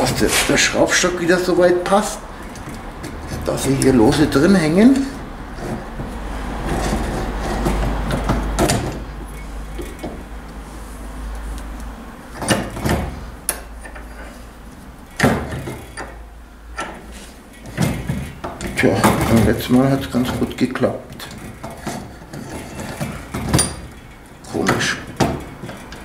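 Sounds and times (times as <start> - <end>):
vise handle bar clanking: 0.0 - 10.6, 12.3 - 26.0
metal knocks and scraping: 0.0 - 26.0.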